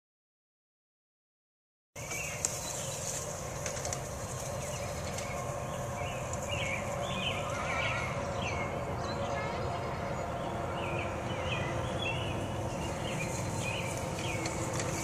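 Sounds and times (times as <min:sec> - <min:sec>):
birds chirping: 0:02.0 - 0:15.0
steady low rumble: 0:02.0 - 0:15.0.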